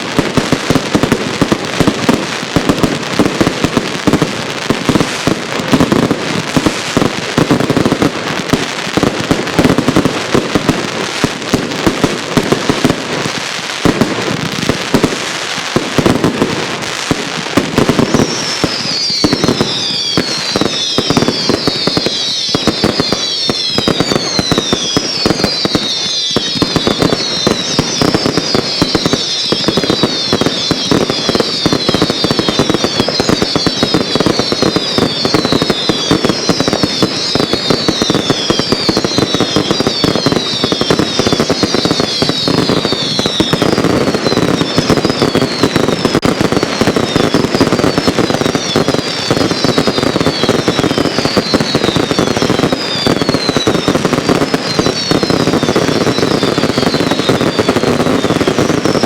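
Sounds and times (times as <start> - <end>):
firework whistles falling in pitch: 0.0 - 59.0
fireworks crackling bangs: 0.0 - 59.0.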